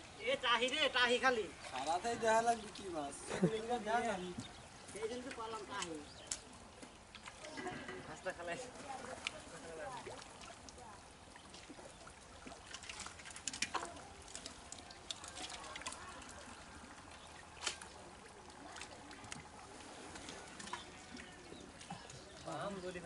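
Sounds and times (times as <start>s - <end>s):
muddy water splashing: 0.0s - 23.0s.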